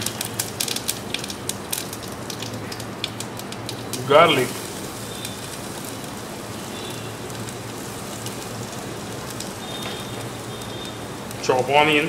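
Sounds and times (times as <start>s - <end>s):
faint crackles: 0.0s - 12.0s
garlic sizzling in hot oil: 0.0s - 12.0s.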